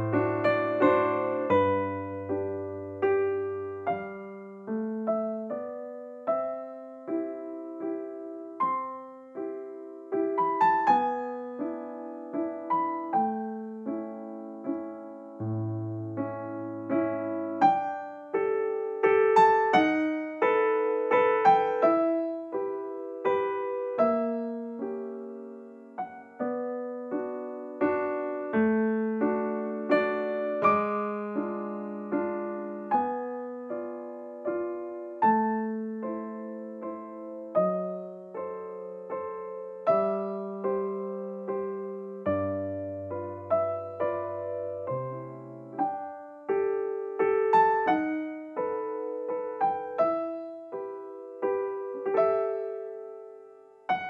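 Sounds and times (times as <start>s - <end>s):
gentle piano melody: 0.0s - 54.0s.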